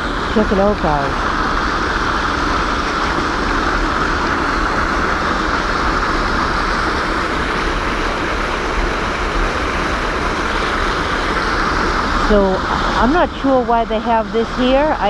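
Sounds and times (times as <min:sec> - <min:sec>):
water rushing through barrier: 0:00.0 - 0:15.0.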